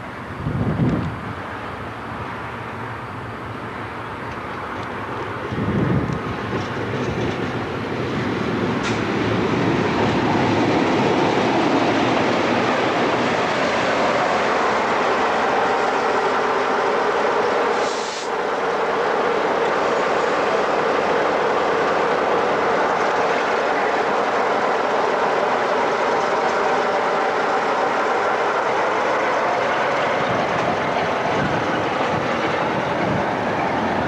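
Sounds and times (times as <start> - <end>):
diesel locomotive engine: 0.0 - 34.0
train wheels rattling over points: 4.3 - 34.0.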